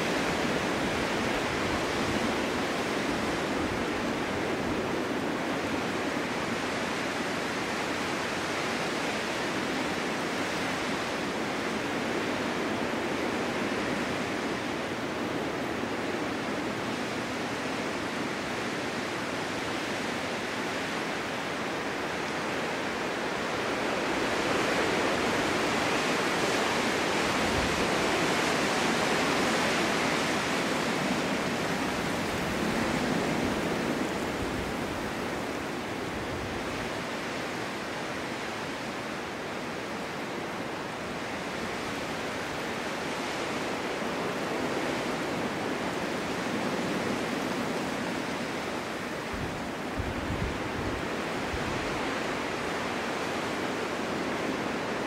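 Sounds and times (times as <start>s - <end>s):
snowstorm wind blowing: 0.0s - 55.0s.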